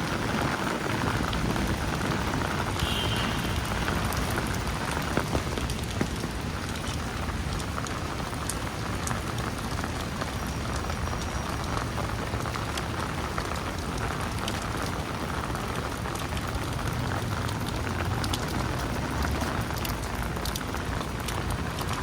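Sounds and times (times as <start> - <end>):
rain drops ticking: 0.0 - 22.0.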